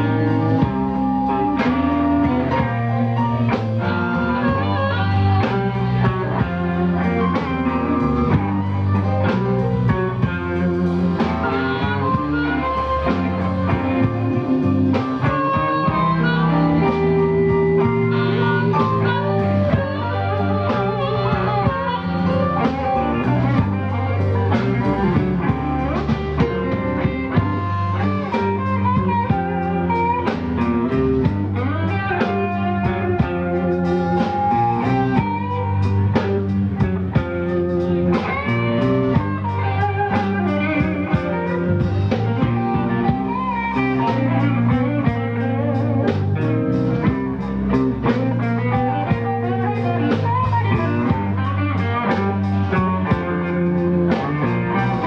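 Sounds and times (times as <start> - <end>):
bass line: 0.0 - 55.0
drums: 0.0 - 55.0
electric guitar bent notes: 0.0 - 55.0.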